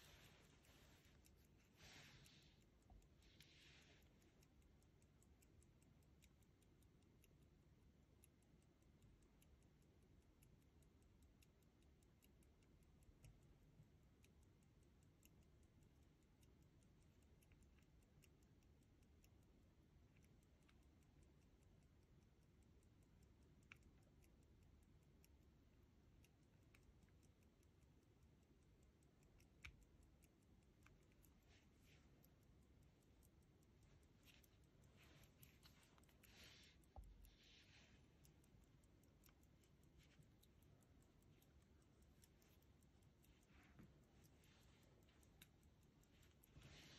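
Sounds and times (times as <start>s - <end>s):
pocket watch ticking: 0.0s - 46.9s.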